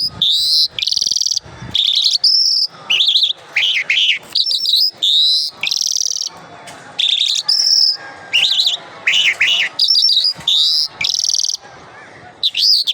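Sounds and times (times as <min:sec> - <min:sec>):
songbird whistling and trilling: 0:00.0 - 0:06.4, 0:07.0 - 0:11.6, 0:12.4 - 0:12.9.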